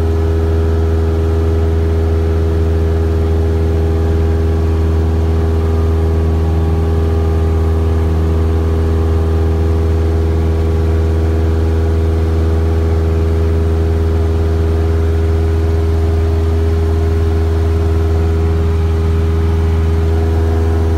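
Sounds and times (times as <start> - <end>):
propeller engine drone: 0.0 - 20.9.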